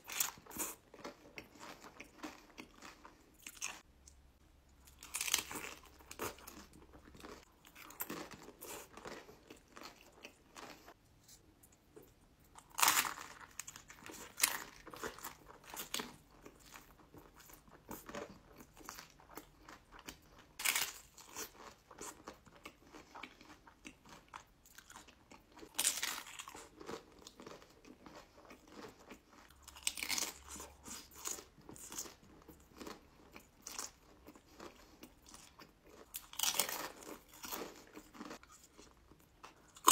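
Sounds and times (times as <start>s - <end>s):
soft chewing: 0.0s - 39.9s.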